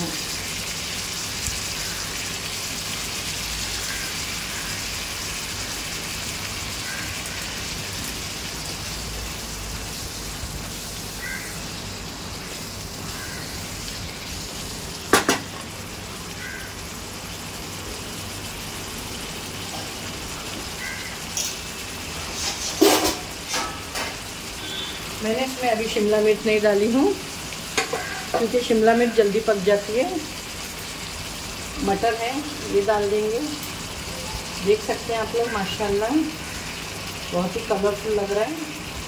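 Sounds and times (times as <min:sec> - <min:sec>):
food sizzling in a pan: 0:00.0 - 0:39.0.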